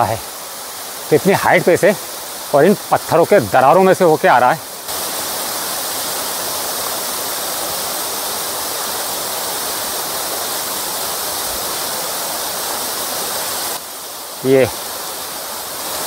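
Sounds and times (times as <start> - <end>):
small waterfall splashing: 0.0 - 16.0.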